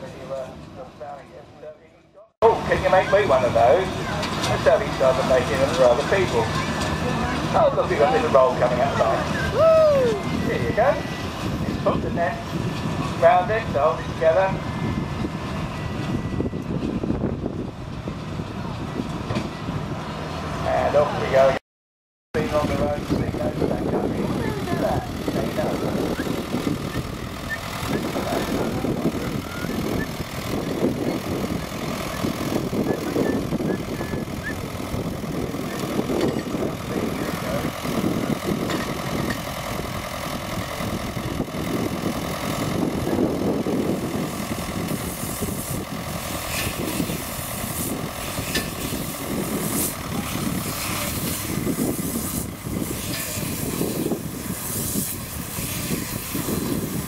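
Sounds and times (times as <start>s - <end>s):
vehicle engine running: 0.0s - 21.6s, 22.4s - 57.0s.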